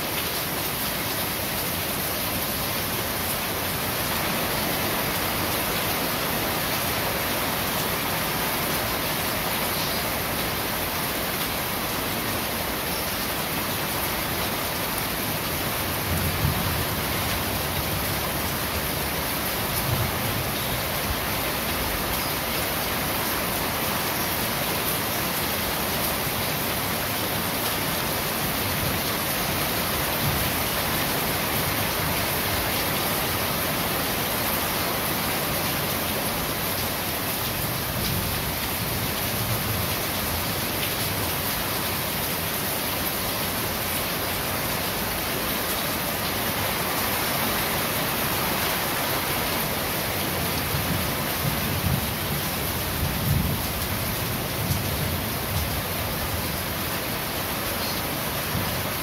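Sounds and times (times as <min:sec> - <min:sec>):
rain on a corrugated roof: 0:00.0 - 0:59.0.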